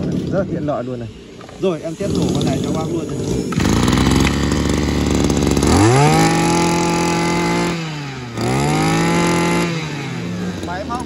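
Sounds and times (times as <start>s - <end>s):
small petrol engine revving: 0.0s - 11.0s.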